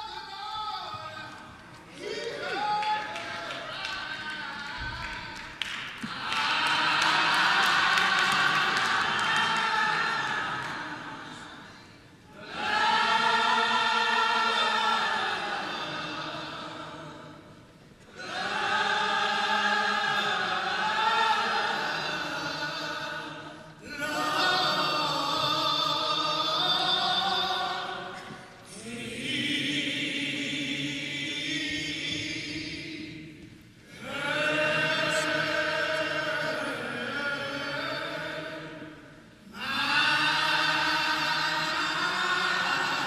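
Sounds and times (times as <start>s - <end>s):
gospel choir singing: 0.0s - 43.0s.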